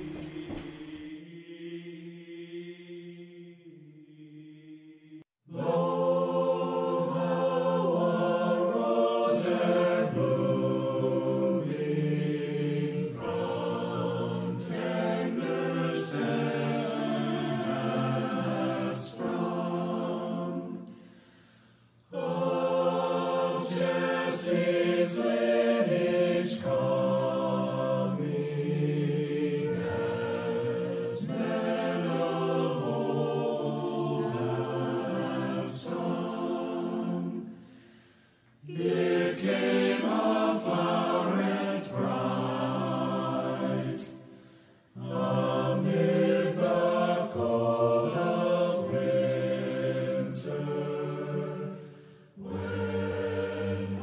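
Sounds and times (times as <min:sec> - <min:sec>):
choir singing slow chant: 0:00.0 - 0:54.0.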